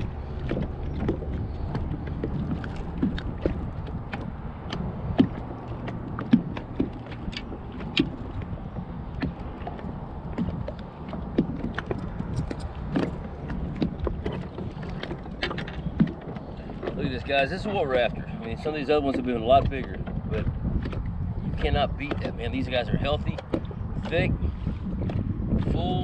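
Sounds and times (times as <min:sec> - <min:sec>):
rumble of wind and water: 0:00.0 - 0:26.0.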